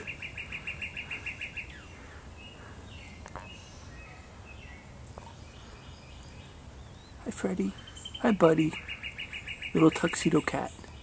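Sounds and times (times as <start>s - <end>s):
small bird singing: 0.0s - 11.0s.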